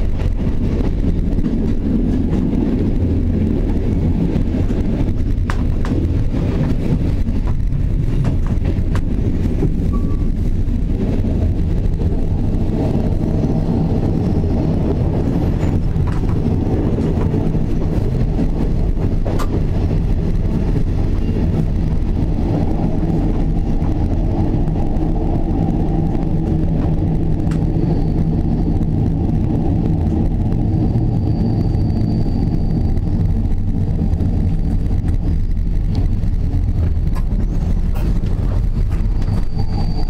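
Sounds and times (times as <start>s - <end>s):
train coach rumbling on track: 0.0s - 40.0s.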